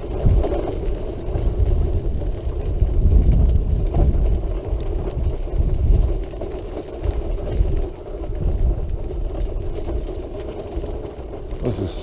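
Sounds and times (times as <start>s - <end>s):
wheelchair rolling on path: 0.0s - 12.0s
wind buffeting microphone: 0.0s - 12.0s.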